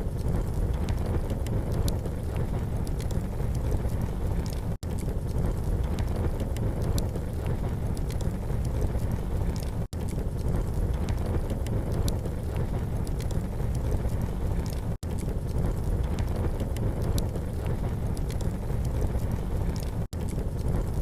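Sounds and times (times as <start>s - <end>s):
campfire crackling and popping: 0.0s - 21.0s
low rumbling noise: 0.0s - 21.0s.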